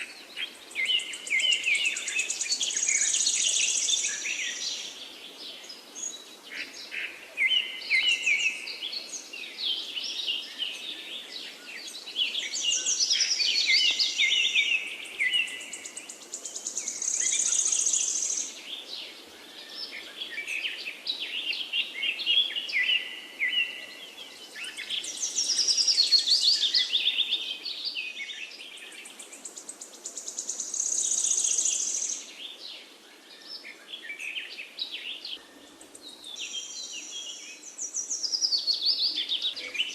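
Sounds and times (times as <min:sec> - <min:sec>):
faint steady hiss: 0:00.0 - 0:39.9
forest birds singing: 0:00.0 - 0:39.9.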